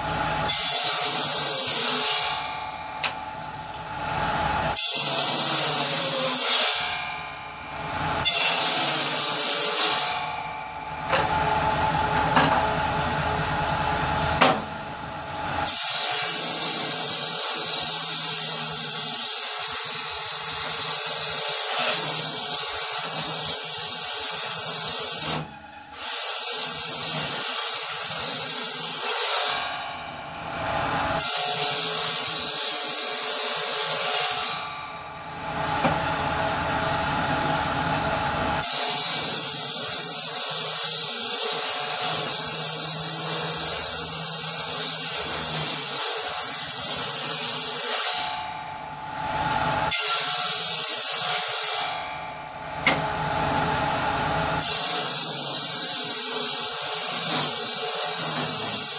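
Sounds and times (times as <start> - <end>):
power saw cutting wood: 0.0 - 58.9.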